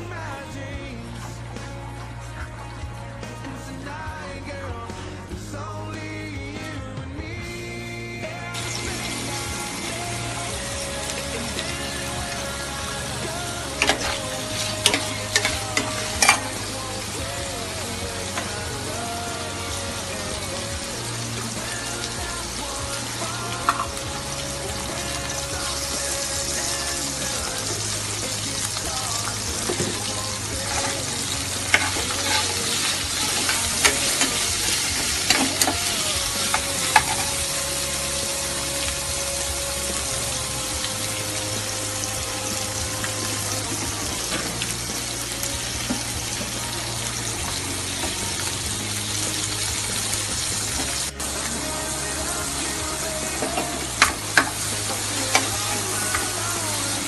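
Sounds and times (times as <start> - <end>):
food sizzling in a pan: 8.6 - 57.0.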